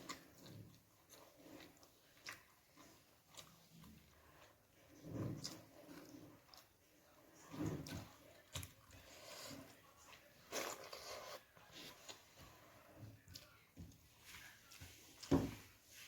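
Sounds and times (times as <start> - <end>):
person chewing: 0.0 - 13.7.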